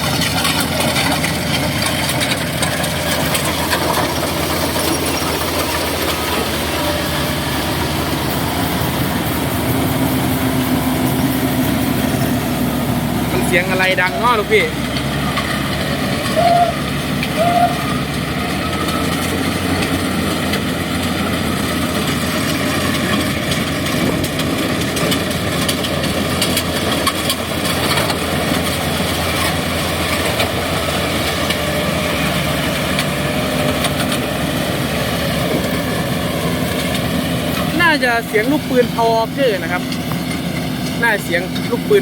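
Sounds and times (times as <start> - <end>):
combine harvester running: 0.0 - 42.0
loud mechanical bearing noise: 0.0 - 42.0.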